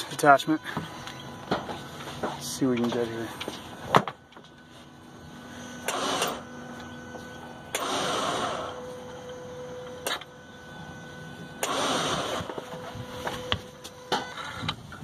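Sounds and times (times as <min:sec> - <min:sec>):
fuel pump whirring: 0:00.0 - 0:15.0.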